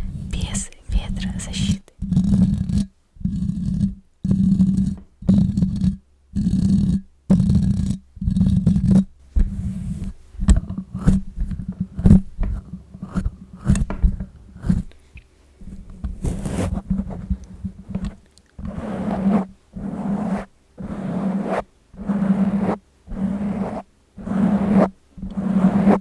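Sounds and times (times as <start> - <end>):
fingernails scratching a microphone: 0.0 - 26.0.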